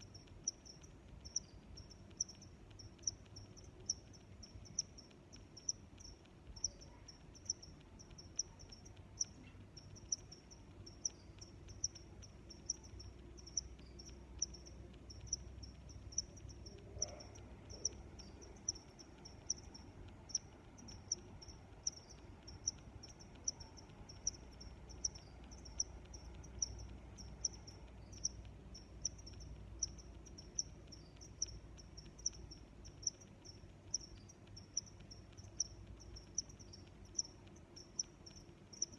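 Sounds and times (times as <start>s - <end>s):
crickets chirping: 0.0s - 38.9s
faint low rumble: 0.0s - 38.9s.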